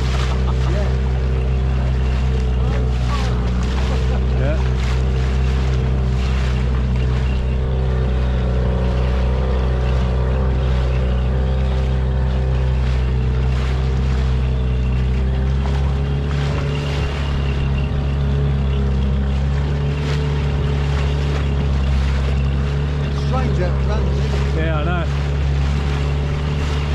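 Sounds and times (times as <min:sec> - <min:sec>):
outboard motor running: 0:00.0 - 0:26.9
water rushing past hull: 0:00.0 - 0:26.9.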